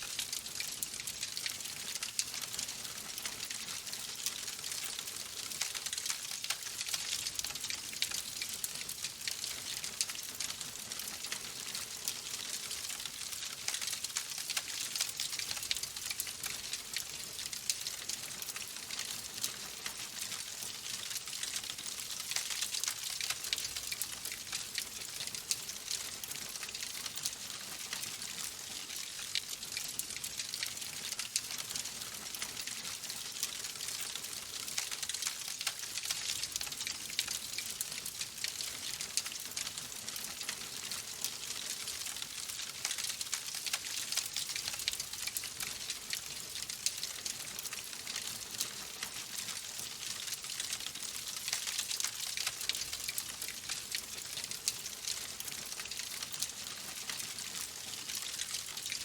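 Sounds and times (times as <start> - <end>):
wood logs crackling in fireplace: 0.0 - 59.0.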